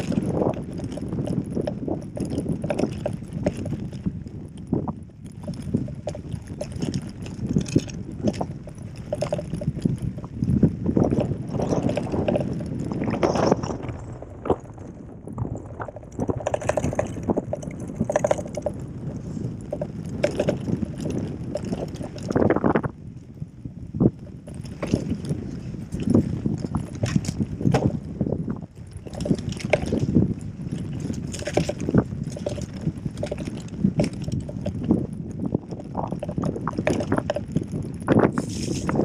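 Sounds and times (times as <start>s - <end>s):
bike rattling and knocking: 0.0s - 39.0s
bike tyres rumbling on dirt: 0.0s - 39.0s.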